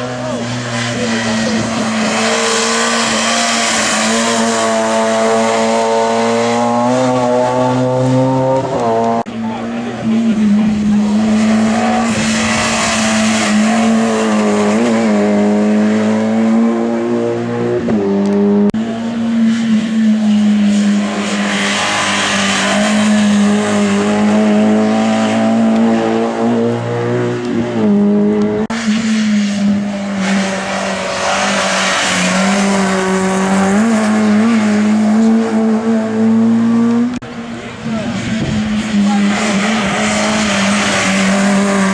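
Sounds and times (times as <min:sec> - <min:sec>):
racing car engine at high revs: 0:00.0 - 0:41.9.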